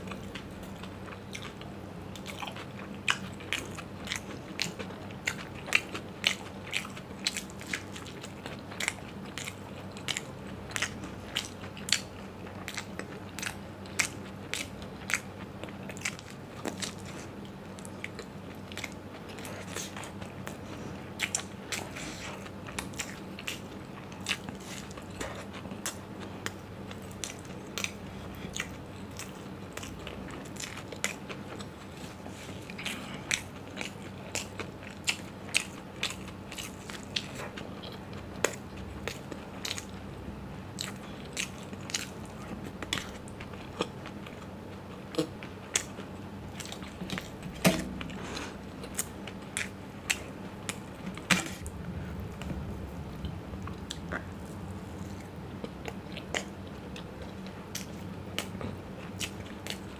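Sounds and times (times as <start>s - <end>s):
wet chewing: 0.0s - 40.1s, 40.7s - 59.9s
crunchy chewing: 0.0s - 59.9s.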